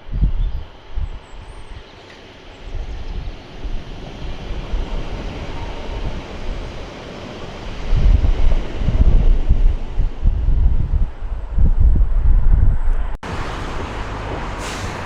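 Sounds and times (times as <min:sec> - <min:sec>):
wind buffeting microphone: 0:00.0 - 0:15.0
train running: 0:00.6 - 0:11.6, 0:12.9 - 0:15.0.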